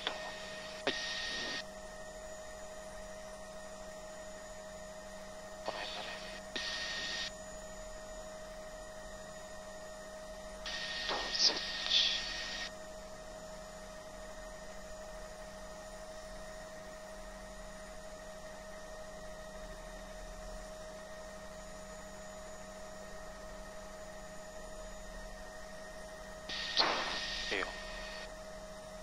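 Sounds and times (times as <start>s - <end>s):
intercom electrical hum: 0.0s - 29.0s.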